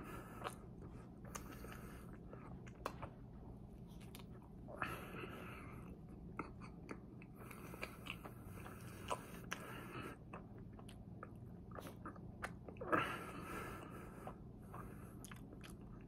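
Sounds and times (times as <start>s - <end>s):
faint steady hum: 0.0s - 16.0s
chewing mouth sounds: 0.4s - 3.2s, 3.8s - 4.7s, 5.8s - 13.1s, 13.8s - 16.0s.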